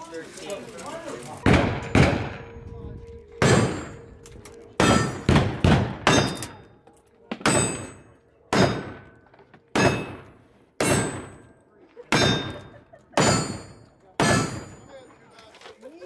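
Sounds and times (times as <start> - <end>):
metallic ring of steel targets: 1.4 - 15.0.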